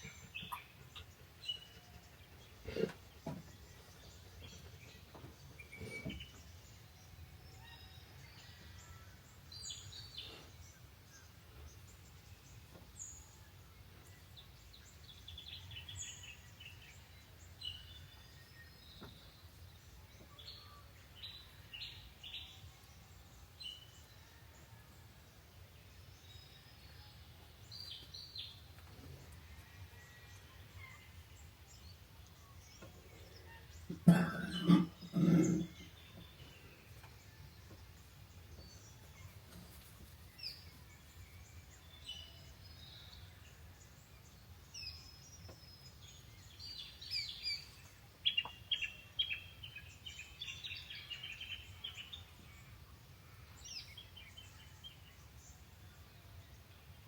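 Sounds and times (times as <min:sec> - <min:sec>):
birds chirping: 0:00.0 - 0:24.4, 0:30.1 - 0:52.8.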